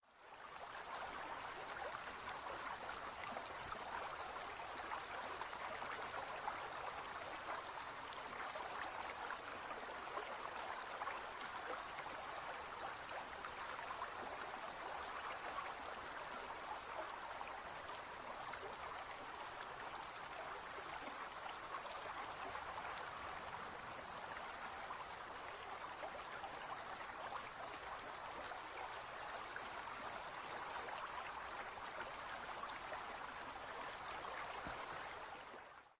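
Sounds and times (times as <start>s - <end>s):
trickling water: 0.0s - 35.9s.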